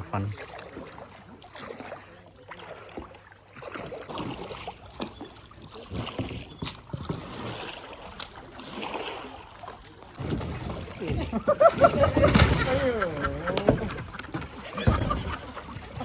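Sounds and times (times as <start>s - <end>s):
water splashing around kayak: 0.0s - 16.0s.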